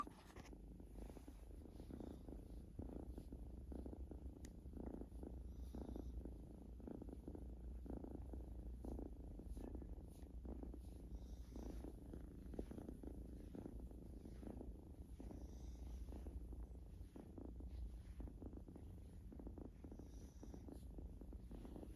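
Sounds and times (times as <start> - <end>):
cat purring: 0.0 - 21.9.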